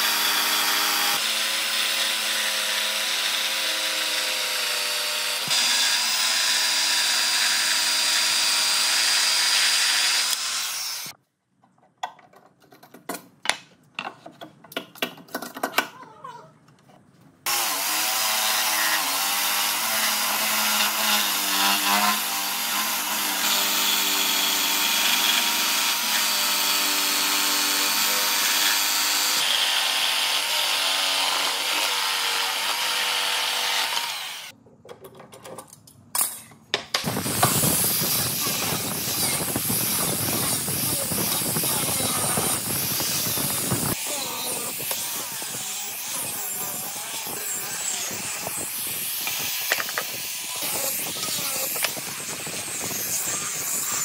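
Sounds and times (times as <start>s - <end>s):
electric power tool on wood: 0.0s - 11.1s, 17.5s - 34.5s, 37.0s - 54.0s.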